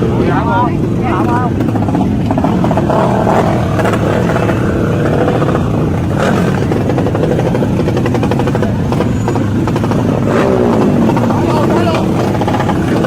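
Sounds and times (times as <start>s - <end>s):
motorbike engines droning: 0.0s - 13.0s.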